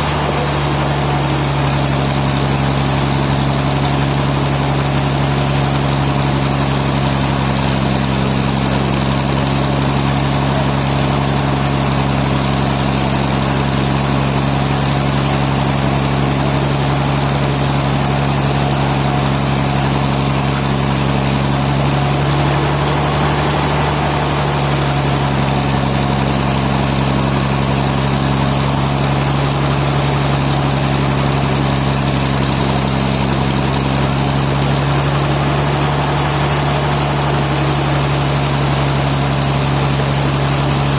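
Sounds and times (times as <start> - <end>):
sawmill machinery humming: 0.0 - 40.9.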